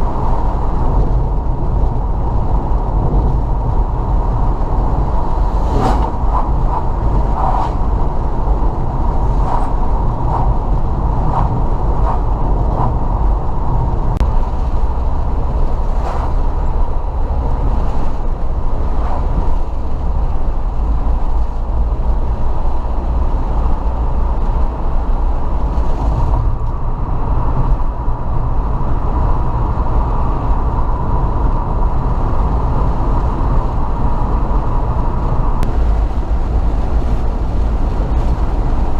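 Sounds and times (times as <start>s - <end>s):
car driving rumble: 0.0s - 38.9s.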